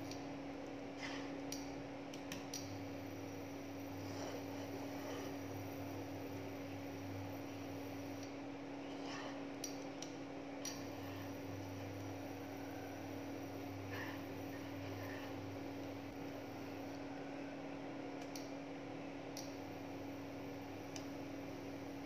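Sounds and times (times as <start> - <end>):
induction hob humming: 0.0 - 22.0.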